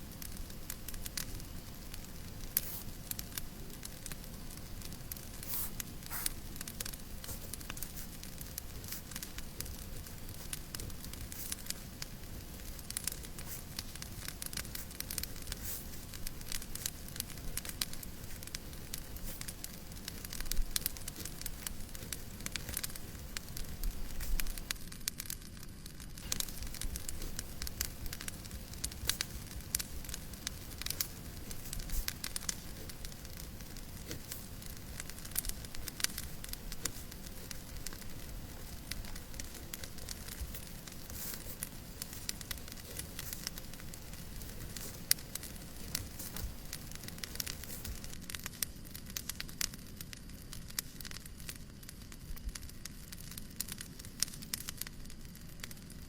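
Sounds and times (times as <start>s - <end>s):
steady white noise hiss: 0.0s - 56.0s
wood fire crackling and popping: 0.0s - 56.0s.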